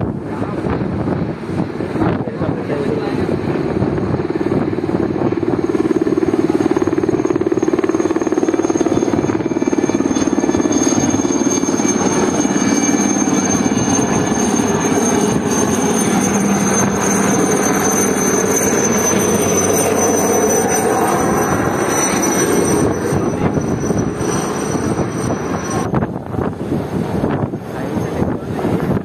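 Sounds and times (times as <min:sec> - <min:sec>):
helicopter rotor chopping: 0:00.0 - 0:29.0.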